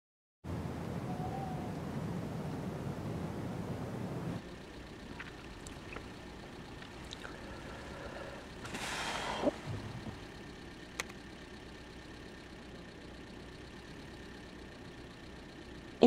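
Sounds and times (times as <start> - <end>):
car interior road noise: 0.5 - 16.0.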